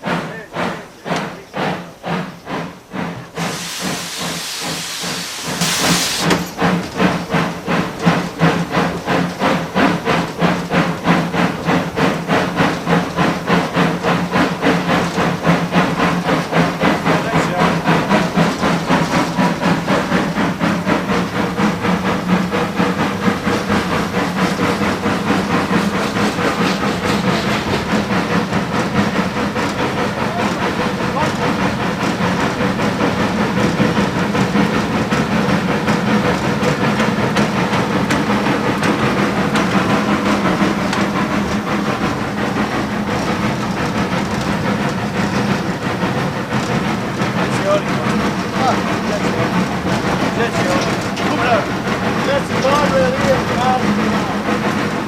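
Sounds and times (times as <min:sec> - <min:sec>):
steam hiss: 0:00.0 - 0:55.0
steam locomotive exhaust beats: 0:00.0 - 0:55.0.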